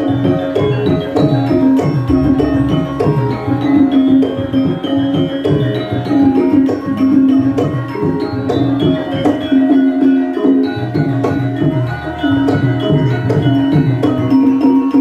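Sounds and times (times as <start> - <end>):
hand drum strokes: 0.0 - 15.0
metallophones and gongs ringing: 0.0 - 15.0.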